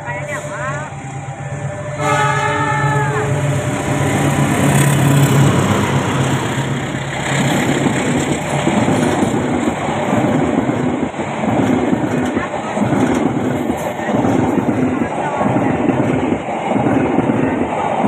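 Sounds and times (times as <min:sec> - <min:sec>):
diesel locomotive engine drone: 0:00.0 - 0:18.0
train cars rumbling past: 0:00.0 - 0:18.0.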